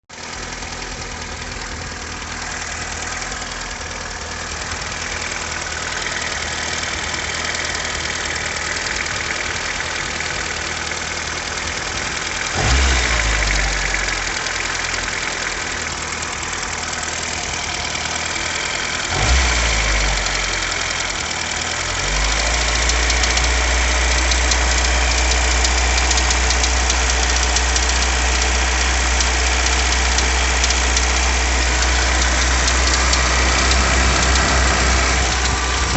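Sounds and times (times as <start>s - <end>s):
car engine knocking: 0.1s - 35.9s.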